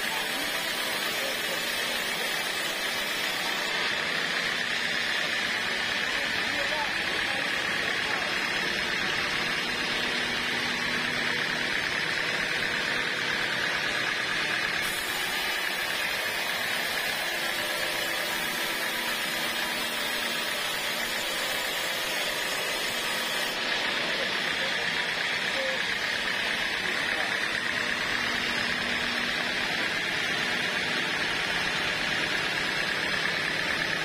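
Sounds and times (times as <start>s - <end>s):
band saw cutting wood: 0.0s - 34.0s.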